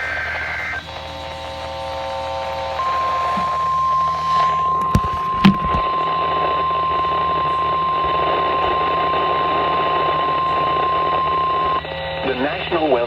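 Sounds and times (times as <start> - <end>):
radio hiss: 0.0 - 13.0
steady high alarm tone: 0.0 - 13.0.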